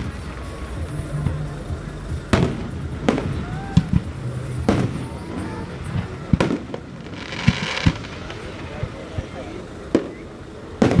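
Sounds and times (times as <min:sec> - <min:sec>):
fireworks exploding: 0:00.0 - 0:11.0
steady background din: 0:00.0 - 0:11.0.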